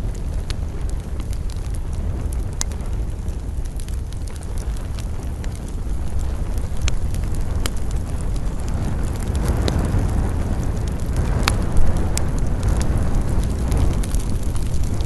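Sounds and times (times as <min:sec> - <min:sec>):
campfire crackling: 0:00.0 - 0:15.0
low fire rumble: 0:00.0 - 0:15.0.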